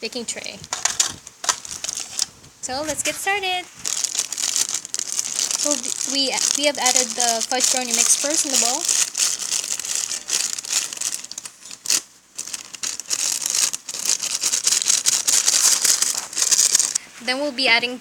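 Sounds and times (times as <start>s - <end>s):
packet crinkling and rustling: 0.4s - 17.0s.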